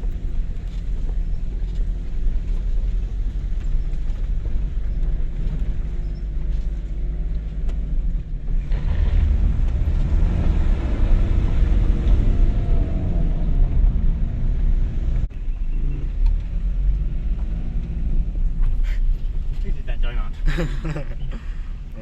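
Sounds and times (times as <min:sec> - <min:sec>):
vehicle engine on dirt track: 0:00.0 - 0:22.0.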